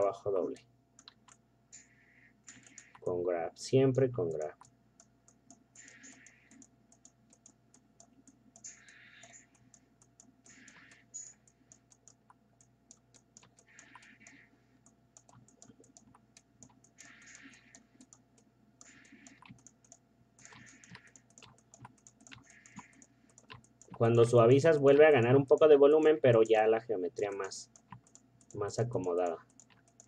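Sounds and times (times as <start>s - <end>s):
mouse and keyboard clicking: 0.5s - 3.1s, 4.4s - 26.6s, 27.2s - 30.0s.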